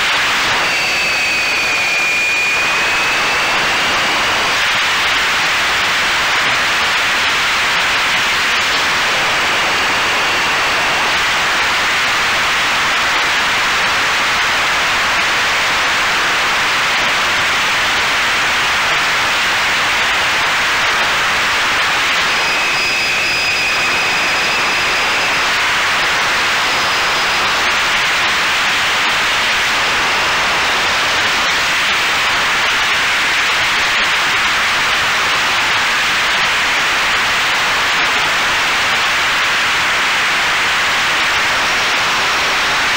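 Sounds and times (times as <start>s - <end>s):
faint high whine: 0.0s - 42.9s.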